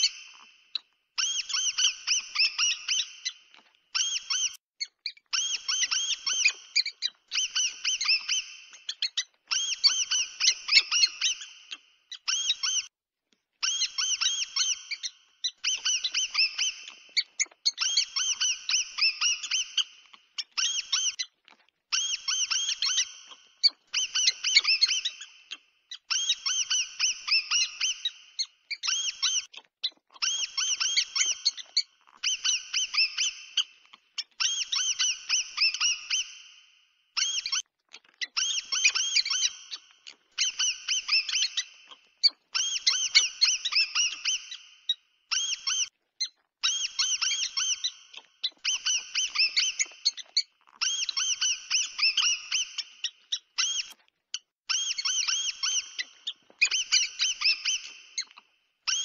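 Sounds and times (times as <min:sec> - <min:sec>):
mouse squeaks: 0:00.0 - 0:12.9, 0:13.6 - 0:59.0.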